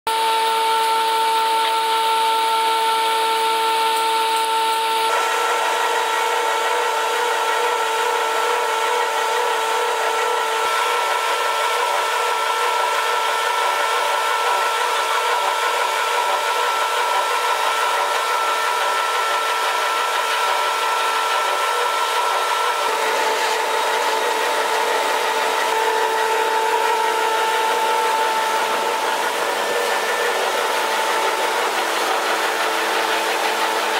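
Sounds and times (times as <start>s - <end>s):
extruder machine whine: 0.1s - 33.9s.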